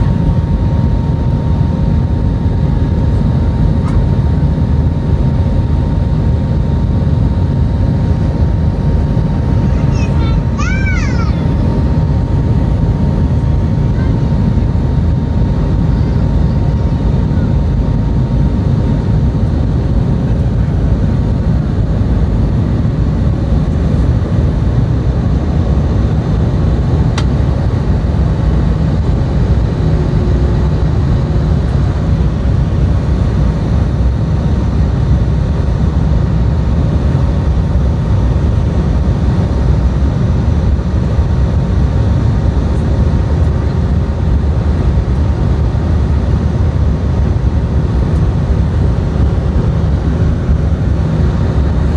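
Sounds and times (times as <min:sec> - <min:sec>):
jet engine rumble in cabin: 0:00.0 - 0:51.9.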